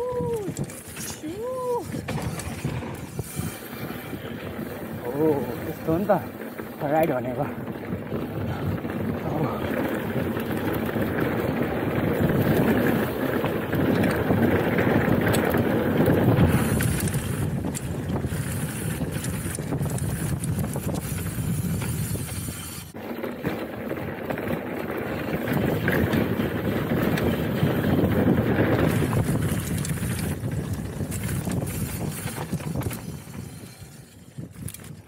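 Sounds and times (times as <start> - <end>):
wind rushing over microphone: 0.0 - 23.0, 24.3 - 35.0
bike rattling over rough trail: 0.0 - 35.0.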